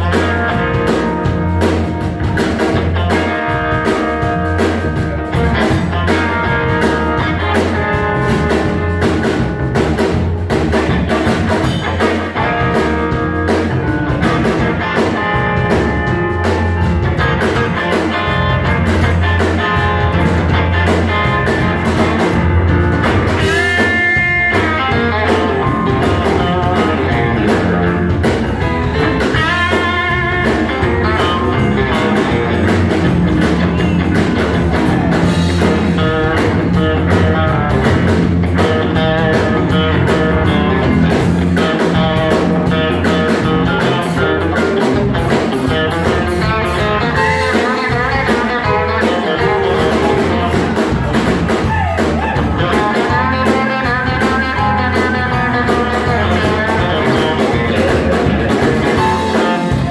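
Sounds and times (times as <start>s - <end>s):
electric guitar: 0.0s - 59.9s
rock band playing live: 0.0s - 59.9s.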